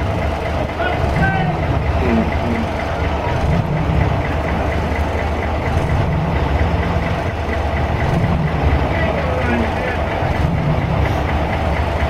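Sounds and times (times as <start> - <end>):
truck engines running slowly: 0.0 - 12.0.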